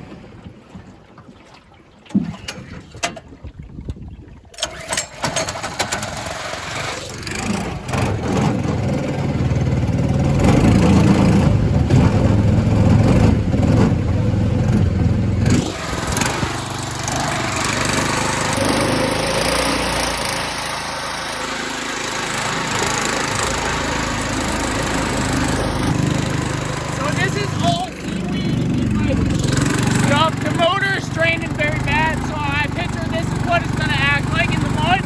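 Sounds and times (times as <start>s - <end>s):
small gas engine running: 4.6s - 35.0s.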